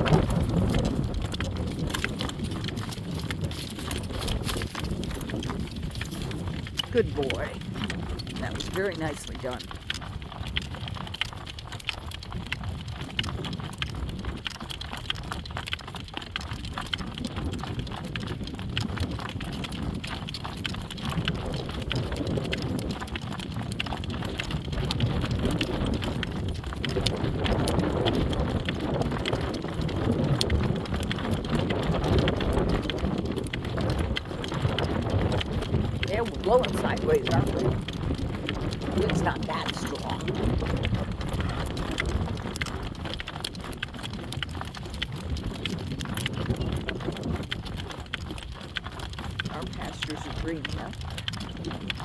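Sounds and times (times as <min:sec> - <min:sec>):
horse hoofbeats: 0:00.0 - 0:52.0
wind rumble on microphone: 0:00.0 - 0:52.0.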